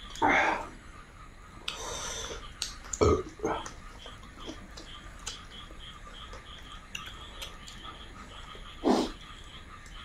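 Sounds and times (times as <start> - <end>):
mouth sounds of eating: 0.0 - 0.8, 1.6 - 10.0.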